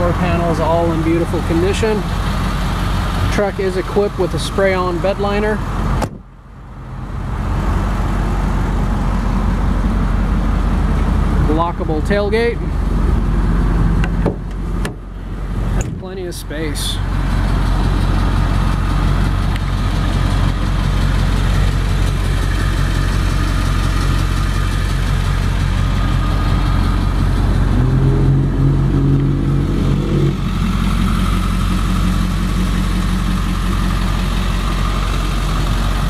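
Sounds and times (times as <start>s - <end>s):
diesel engine idling: 0.0s - 36.0s
strong hum: 0.0s - 36.0s.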